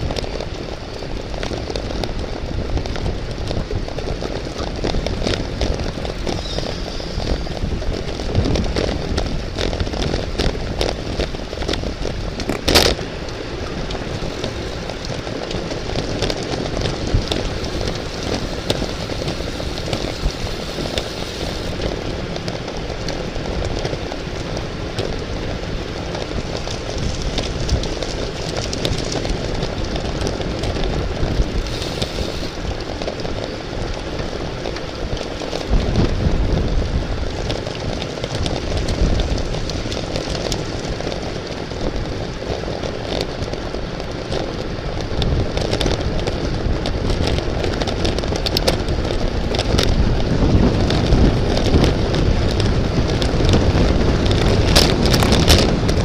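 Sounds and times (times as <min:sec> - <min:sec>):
road rumble: 0:00.0 - 0:56.0
wind rush: 0:00.0 - 0:56.0.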